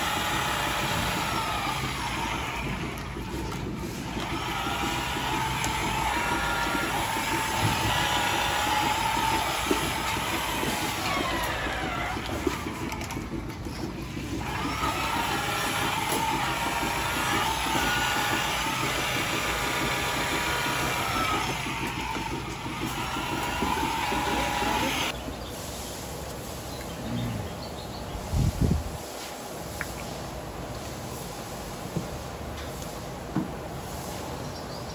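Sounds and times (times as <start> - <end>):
machinery rumble with hissing: 0.0 - 34.9.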